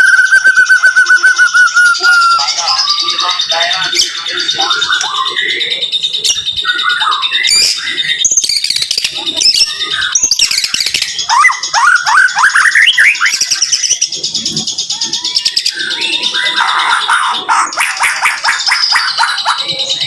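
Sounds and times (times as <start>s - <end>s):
songbird singing rapid song: 0.0s - 20.0s.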